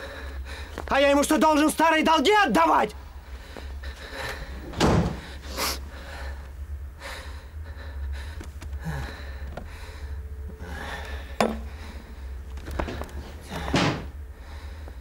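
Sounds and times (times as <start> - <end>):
man breathing hard: 0.0 - 0.9, 3.1 - 15.0
low steady hum: 0.0 - 15.0.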